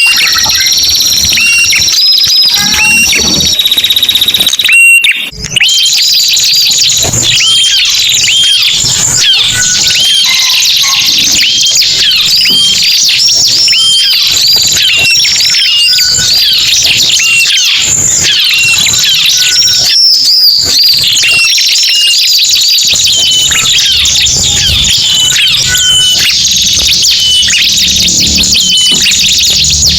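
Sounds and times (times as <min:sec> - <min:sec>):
high rapid bird chirps and trills: 0:00.0 - 0:29.9.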